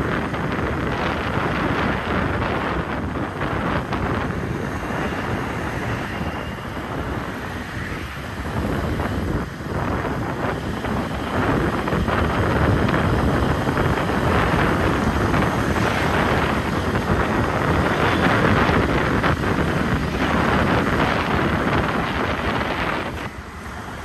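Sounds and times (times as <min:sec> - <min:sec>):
vehicle and road noise: 0:00.0 - 0:24.0
wind rushing over microphone: 0:00.0 - 0:24.0.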